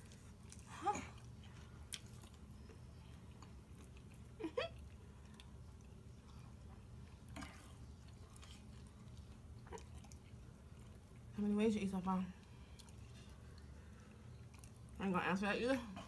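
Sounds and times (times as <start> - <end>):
people chewing: 0.0 - 11.4, 12.2 - 15.1.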